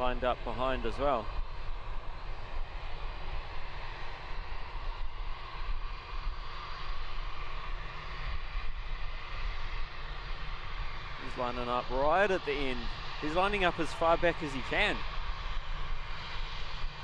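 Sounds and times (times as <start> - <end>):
distant jet engines whining: 0.0 - 17.0.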